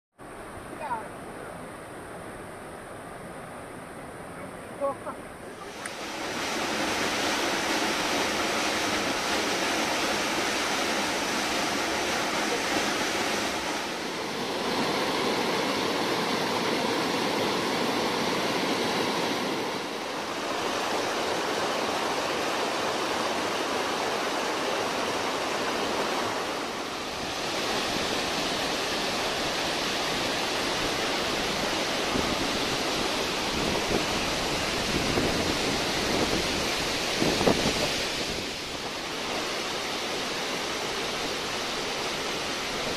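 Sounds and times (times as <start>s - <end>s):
water rushing over rocks: 4.8s - 42.9s.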